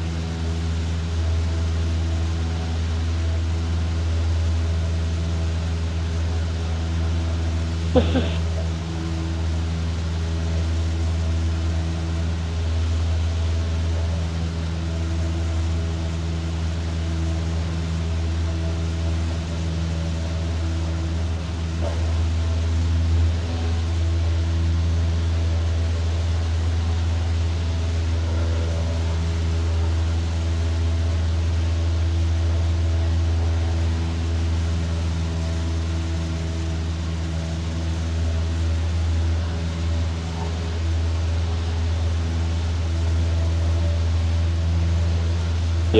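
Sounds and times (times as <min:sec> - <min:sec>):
light aircraft engine droning: 0:00.0 - 0:45.9.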